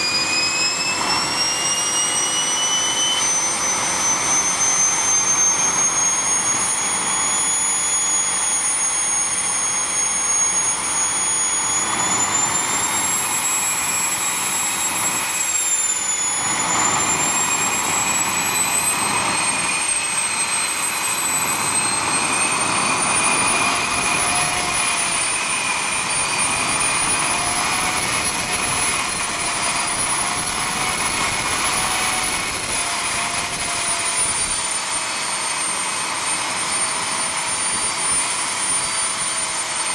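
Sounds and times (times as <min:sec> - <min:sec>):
model jet turbine whine: 0:00.0 - 0:39.9.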